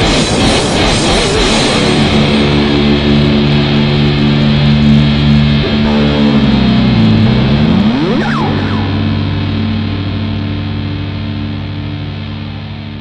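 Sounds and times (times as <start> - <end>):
electric guitar solo: 0.0 - 13.0
heavy metal backing track: 0.0 - 13.0.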